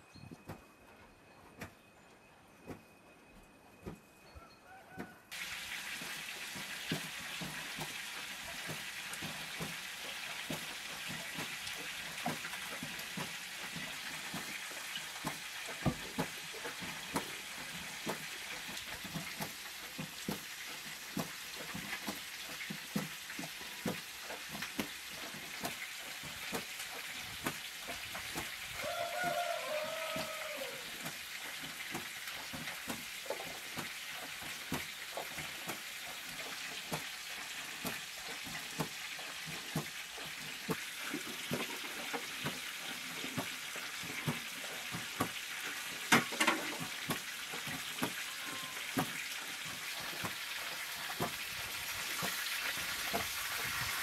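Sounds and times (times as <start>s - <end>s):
chicken sizzling in a pan: 5.3s - 54.0s.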